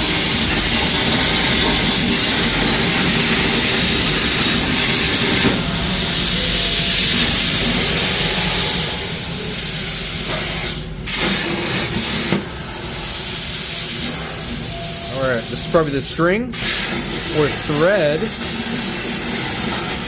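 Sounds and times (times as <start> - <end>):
plasma cutter hissing: 0.0 - 20.0.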